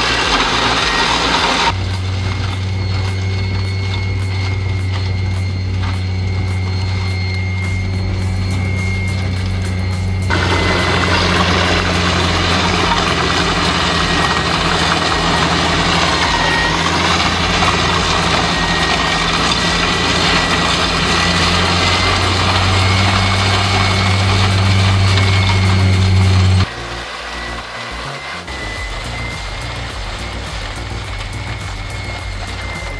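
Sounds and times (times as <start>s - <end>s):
heavy machine engine humming: 0.0s - 32.9s
rushing mechanical noise: 0.0s - 32.9s.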